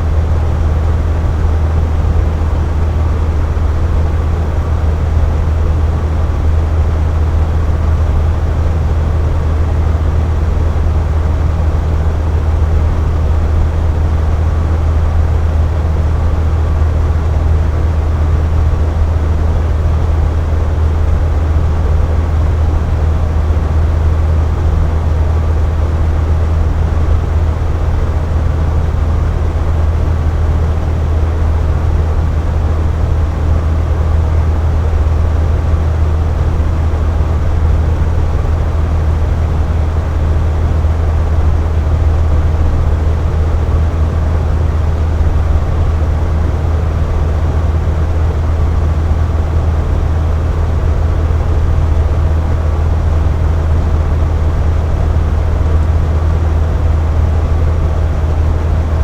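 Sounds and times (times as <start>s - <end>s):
box fan running: 0.0s - 59.0s.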